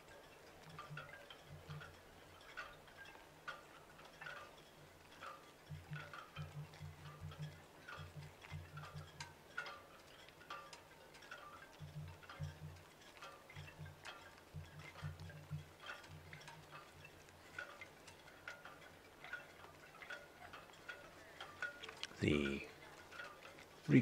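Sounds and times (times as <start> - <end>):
faint ticking with chime-like ring: 0.0 - 24.0.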